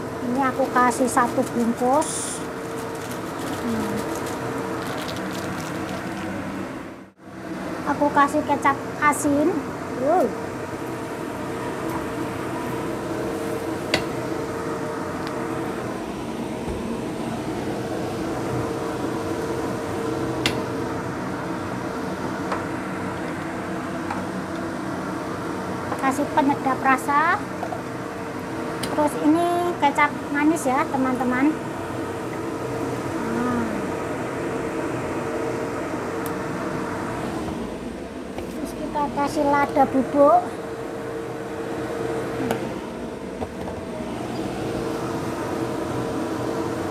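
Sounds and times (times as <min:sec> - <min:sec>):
steady machine hum: 0:00.0 - 0:46.9.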